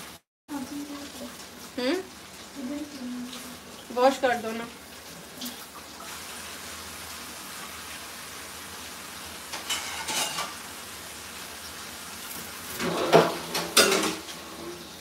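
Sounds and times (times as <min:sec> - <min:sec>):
pot sizzling: 0:00.0 - 0:15.0.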